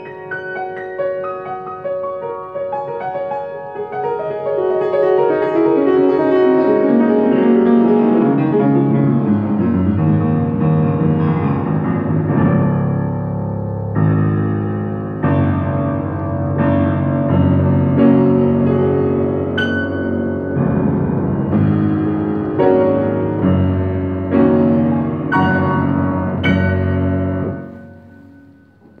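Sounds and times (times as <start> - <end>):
out-of-tune piano chords: 0.0 - 29.0.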